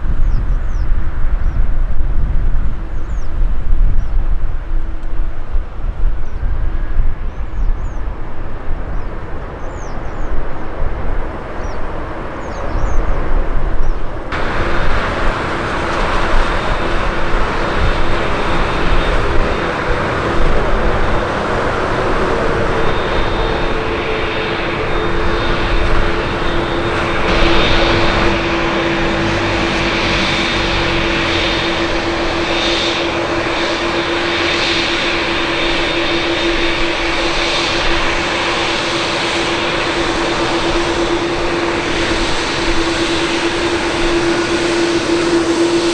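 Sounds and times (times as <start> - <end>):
jet airliner engines roaring: 0.0 - 45.9
engine whining tones: 7.6 - 45.9.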